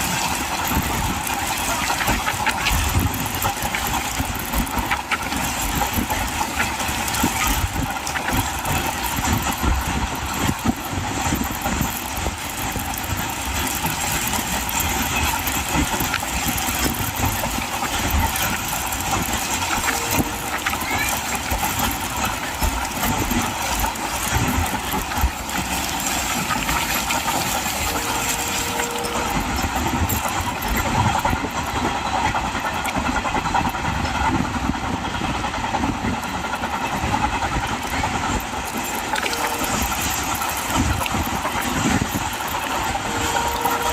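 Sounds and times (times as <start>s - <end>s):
train rumbling and rattling: 0.0s - 43.9s.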